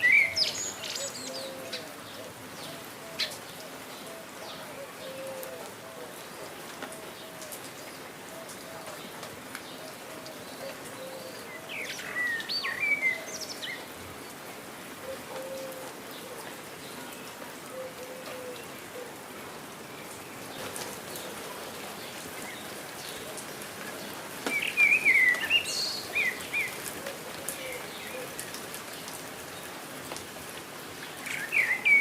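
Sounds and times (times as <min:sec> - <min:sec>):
rain: 0:00.0 - 0:32.0
songbirds chirping: 0:00.0 - 0:32.0.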